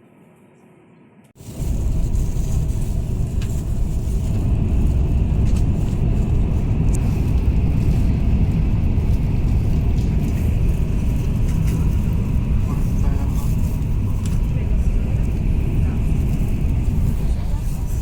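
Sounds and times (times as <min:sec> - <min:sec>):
train rumbling: 0:01.4 - 0:18.0.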